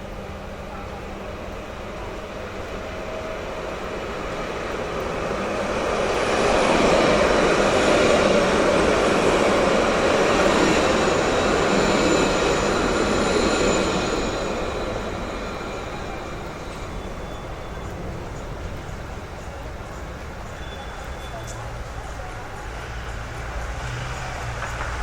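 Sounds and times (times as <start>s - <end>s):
high whine of tram wheels: 0.0s - 25.0s
tram passing: 0.0s - 25.0s.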